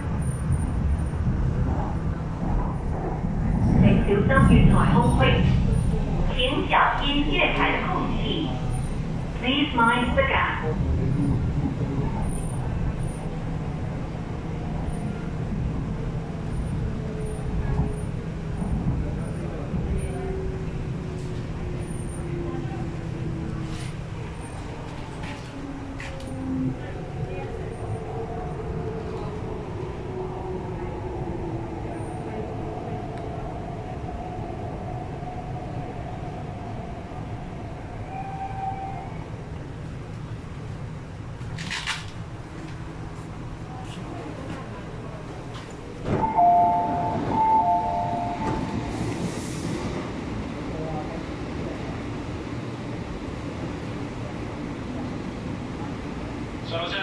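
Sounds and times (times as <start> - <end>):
train carriage hum and rumble: 0.0 - 57.0.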